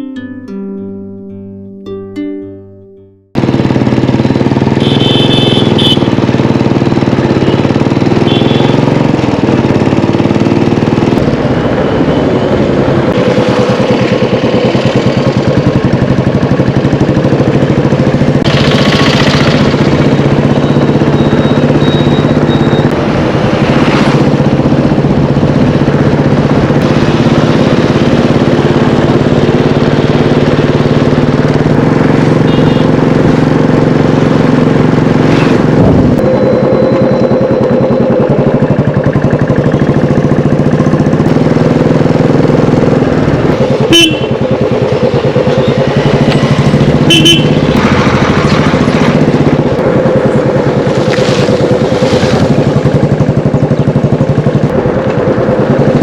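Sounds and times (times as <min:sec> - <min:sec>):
engine running with fast pulse: 0:03.4 - 0:56.0.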